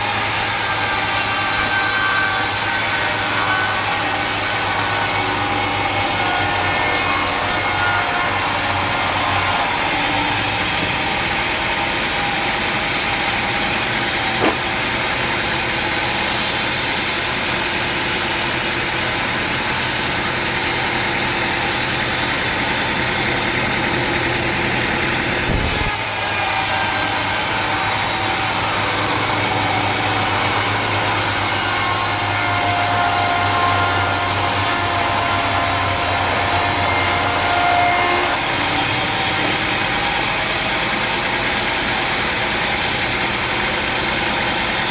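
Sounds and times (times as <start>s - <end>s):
saw cutting log: 0.0s - 44.9s
sawmill machinery running: 0.0s - 44.9s.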